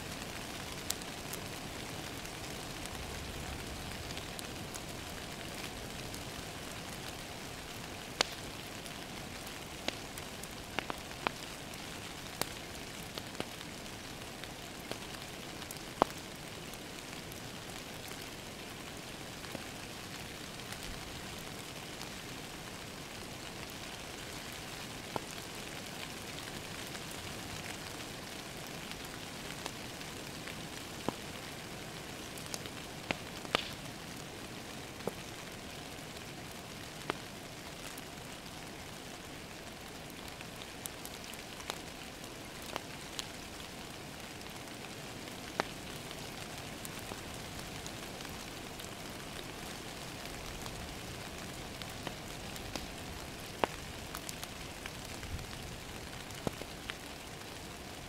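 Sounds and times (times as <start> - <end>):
log fire crackling: 0.0 - 58.0
rain pattering on window: 0.1 - 58.0.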